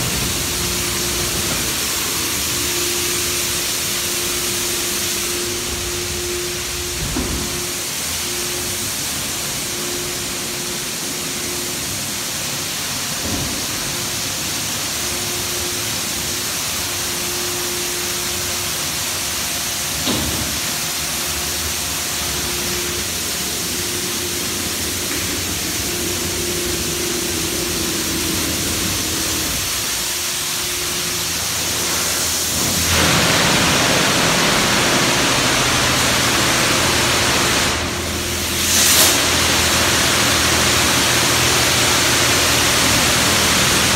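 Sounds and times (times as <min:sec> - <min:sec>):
car wash water spray hissing: 0:00.0 - 0:43.9.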